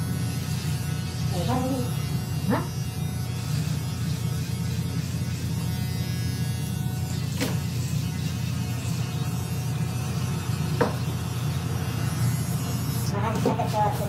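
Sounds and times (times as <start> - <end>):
electric hair clipper buzzing: 0.0 - 14.0.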